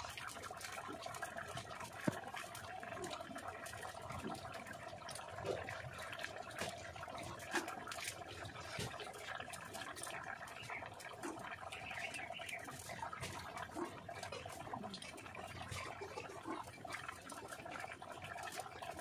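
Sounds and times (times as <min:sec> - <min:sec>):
gravy simmering and bubbling: 0:00.0 - 0:19.0
small clicks and pops: 0:00.1 - 0:19.0.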